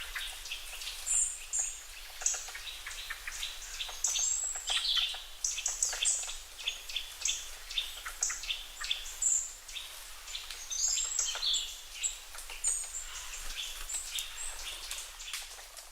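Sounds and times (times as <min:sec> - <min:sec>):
birds chirping and calling: 0:00.0 - 0:15.5.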